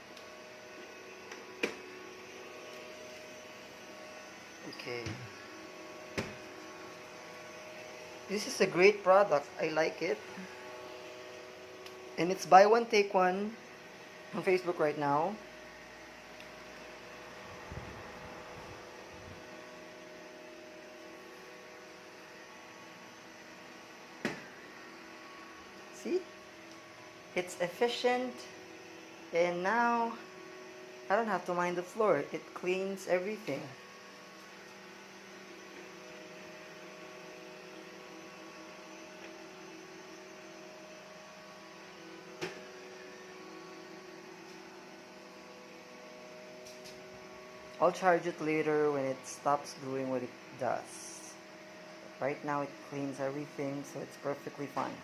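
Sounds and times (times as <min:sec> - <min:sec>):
robot vacuum cleaner humming: 0:00.0 - 0:55.0.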